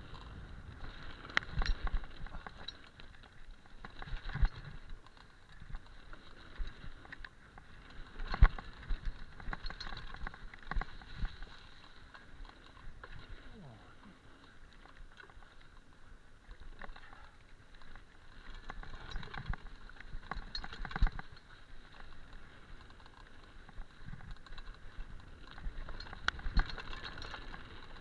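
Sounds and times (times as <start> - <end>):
bike rattles and knocks: 0.0 - 13.7, 16.6 - 28.0.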